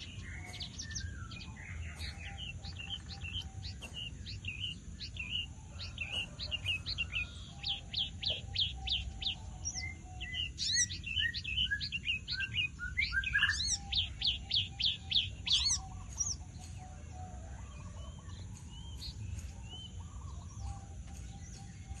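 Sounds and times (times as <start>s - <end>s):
lark singing: 0.0s - 22.0s
steady low hum: 0.0s - 22.0s.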